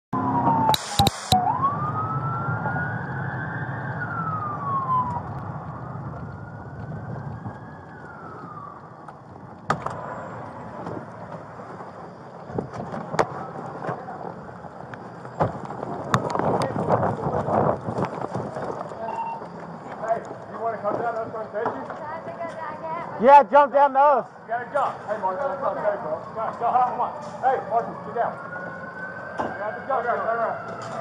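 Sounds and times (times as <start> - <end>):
emergency siren wailing: 0.2 - 31.0
road rumble: 0.2 - 31.0.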